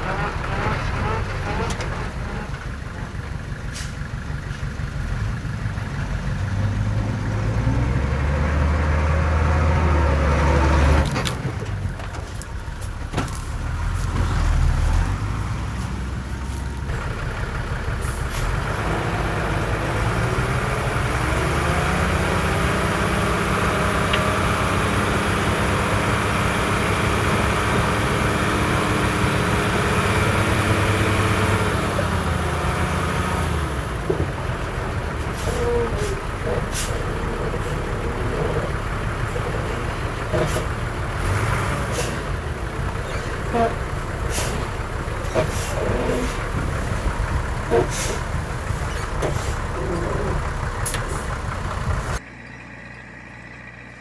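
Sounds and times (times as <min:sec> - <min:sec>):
heavy diesel machinery engines: 0:00.0 - 0:54.0.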